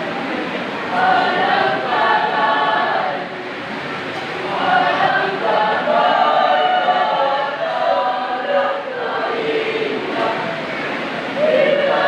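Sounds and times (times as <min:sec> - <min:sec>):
choir singing sustained notes: 0:00.9 - 0:03.5, 0:04.4 - 0:12.0.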